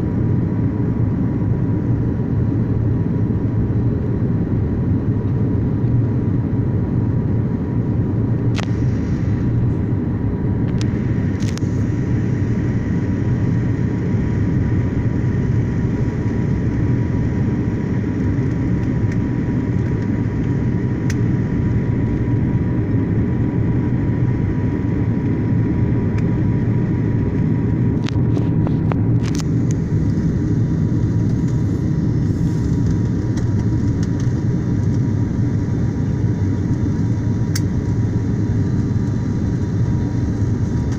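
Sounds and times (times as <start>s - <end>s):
aircraft cabin engine rumble: 0.0s - 40.9s
thin steady whine: 6.3s - 40.9s.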